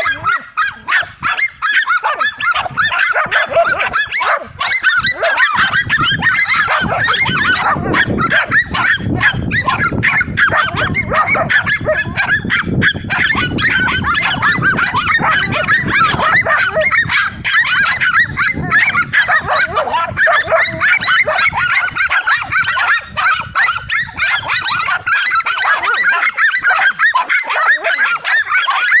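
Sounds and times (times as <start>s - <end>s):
dogs barking and yapping: 0.0s - 29.0s.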